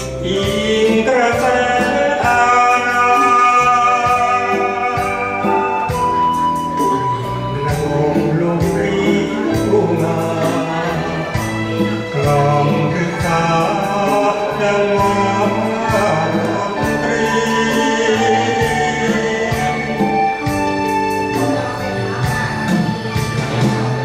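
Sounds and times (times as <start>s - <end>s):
man singing into microphone: 0.0s - 23.4s
instrumental backing music: 0.0s - 24.0s.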